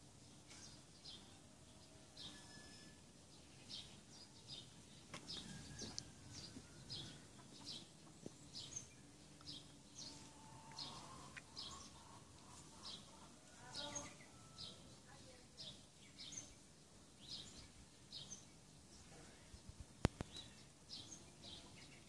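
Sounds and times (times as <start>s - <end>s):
faint bird chirping: 0.2s - 22.0s.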